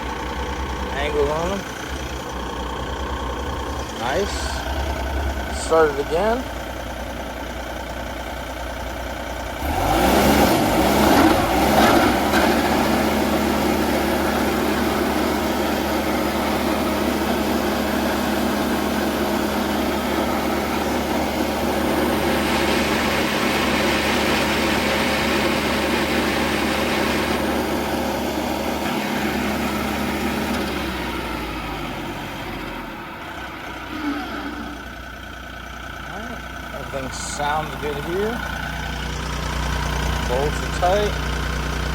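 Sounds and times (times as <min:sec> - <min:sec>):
stump grinder engine running: 0:00.0 - 0:41.9.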